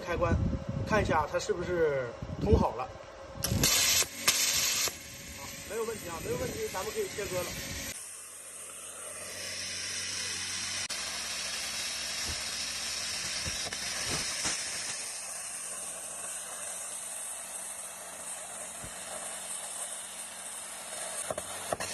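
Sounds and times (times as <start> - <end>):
plasma cutter hissing: 3.4 - 21.9.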